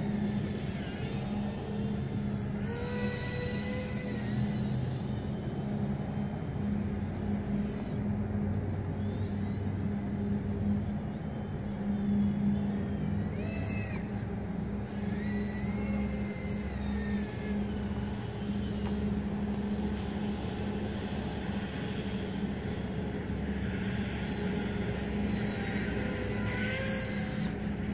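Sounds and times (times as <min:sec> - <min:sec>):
distant quadcopter motors whining: 0:00.0 - 0:27.9
steady low hum: 0:00.0 - 0:27.9.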